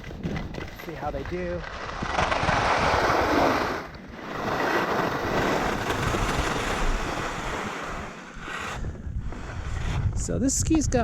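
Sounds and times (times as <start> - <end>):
wind on microphone: 0.0 - 11.0
skis scraping over icy snow: 0.1 - 10.6.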